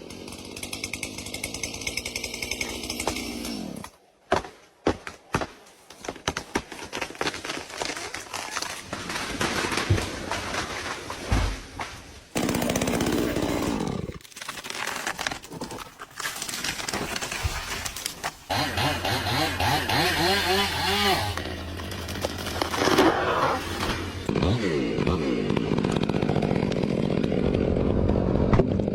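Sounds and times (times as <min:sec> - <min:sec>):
wood cracking and branches snapping: 0:00.1 - 0:28.9.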